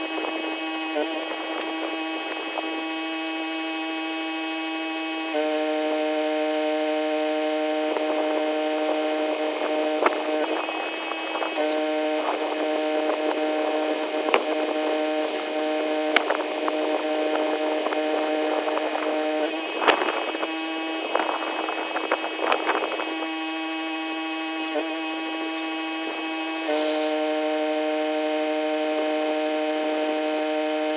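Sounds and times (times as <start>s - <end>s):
pressure washer humming: 0.0s - 30.9s
rough bursts of noise: 0.0s - 30.9s.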